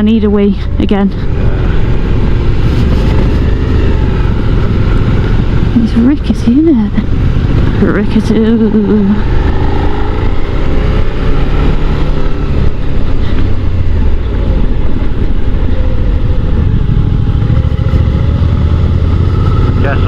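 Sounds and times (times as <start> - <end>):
motorcycle engine running: 0.0 - 20.0
wind and road noise rumble: 0.0 - 20.0.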